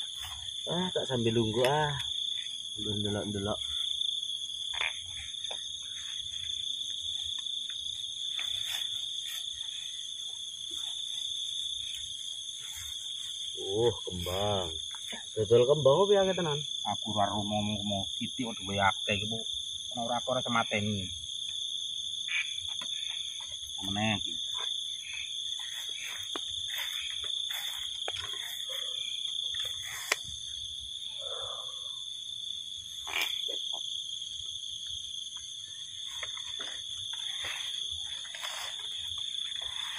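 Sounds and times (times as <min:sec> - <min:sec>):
insect chirring: 0:00.0 - 0:39.9.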